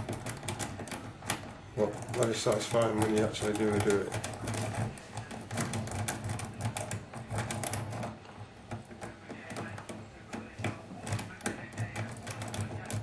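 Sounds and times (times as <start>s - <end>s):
lock pin tumblers clicking: 0.0s - 13.0s.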